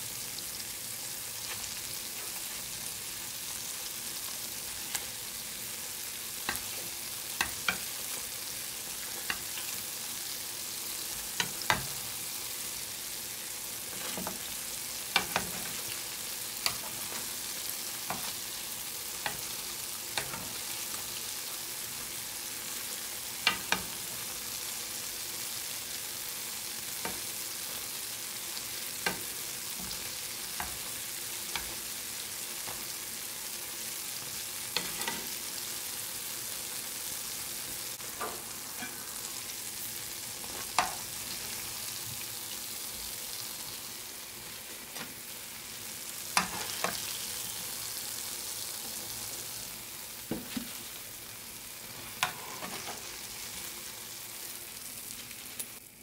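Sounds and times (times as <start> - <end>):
oil sizzling: 0.0 - 56.0.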